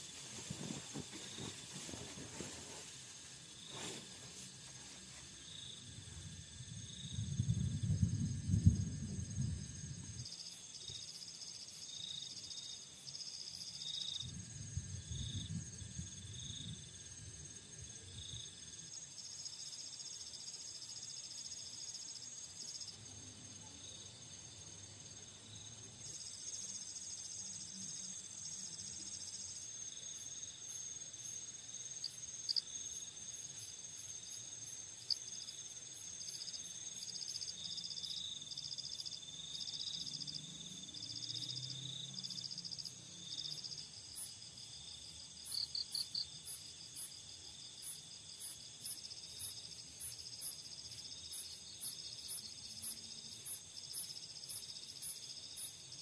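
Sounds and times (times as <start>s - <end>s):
crickets and insects chirping: 0.0s - 56.0s.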